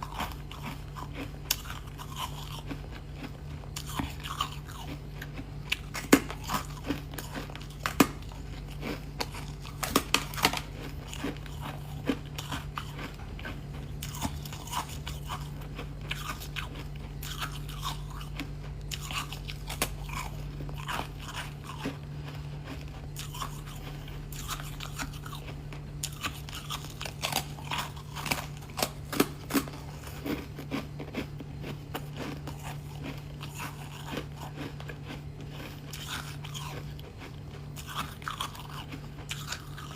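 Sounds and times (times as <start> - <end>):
person crunching brittle ice: 0.0 - 39.9
steady low hum: 0.0 - 39.9.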